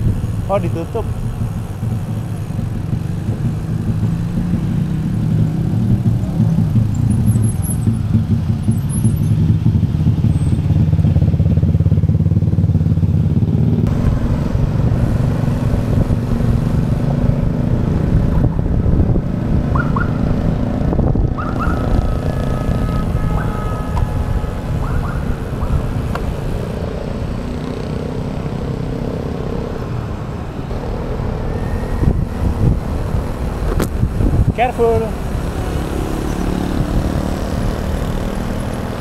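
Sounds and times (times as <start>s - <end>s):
motorcycle and car traffic: 0.0s - 39.0s.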